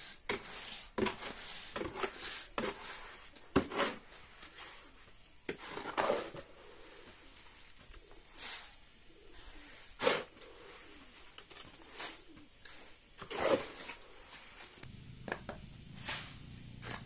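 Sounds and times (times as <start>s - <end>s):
shovel scraping wet mortar: 0.0s - 4.8s, 5.5s - 6.5s, 8.3s - 17.0s.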